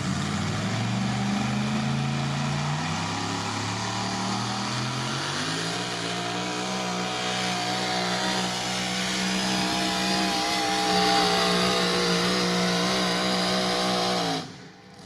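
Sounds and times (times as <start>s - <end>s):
pickup engine running hard: 0.0s - 15.0s.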